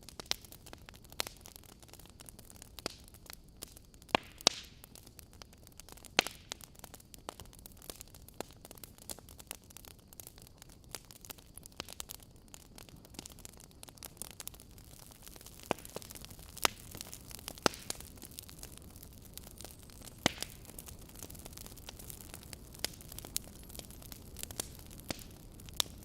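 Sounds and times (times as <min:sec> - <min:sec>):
sharp pops of fire: 0:00.0 - 0:26.0
wood fire crackling: 0:00.0 - 0:26.0.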